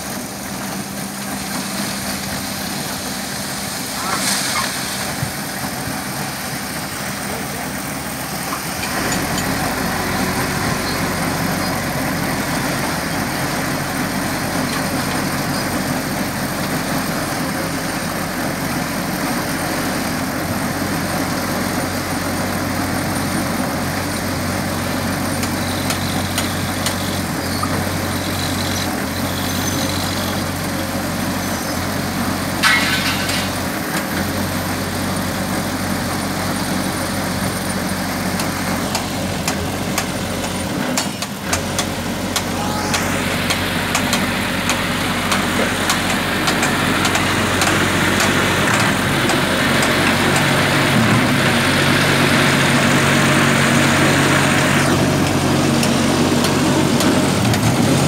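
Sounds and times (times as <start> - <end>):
concrete mixer droning: 0.0 - 58.0.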